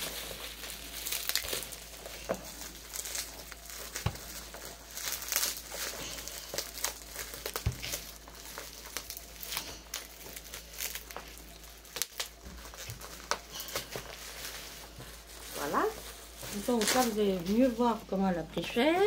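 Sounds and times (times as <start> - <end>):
bubble wrap crinkling and crackling: 0.0 - 19.0.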